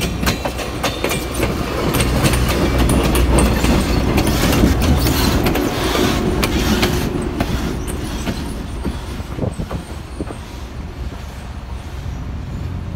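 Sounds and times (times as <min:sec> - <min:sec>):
wheels clicking over rail joints: 0:00.0 - 0:11.3
diesel locomotive rumble: 0:00.0 - 0:12.9.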